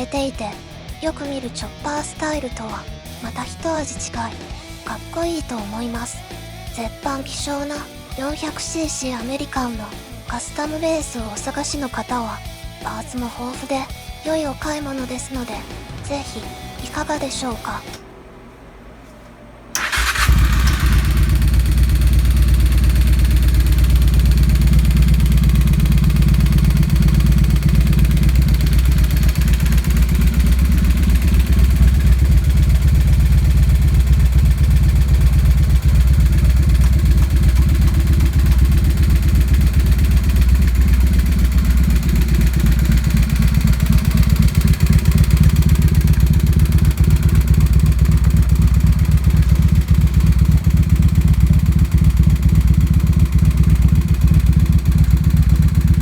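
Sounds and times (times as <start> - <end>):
motorcycle engine idling: 3.0 - 18.9, 19.7 - 56.0.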